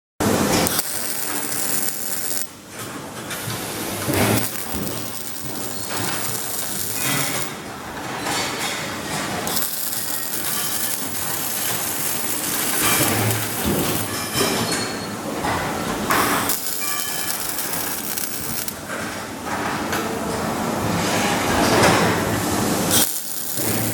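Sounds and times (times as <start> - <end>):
metalworking machinery running: 0.2 - 14.3, 16.0 - 18.9, 21.1 - 23.9.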